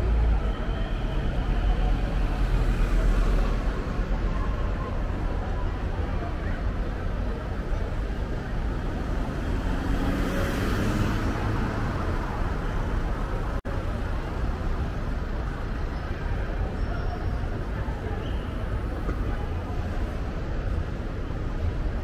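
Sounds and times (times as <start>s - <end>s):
city street traffic: 0.0s - 22.0s.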